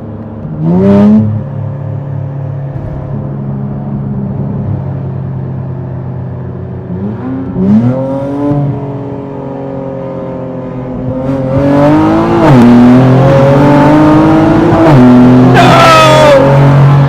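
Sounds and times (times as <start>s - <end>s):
car engine accelerating hard: 0.4s - 17.0s.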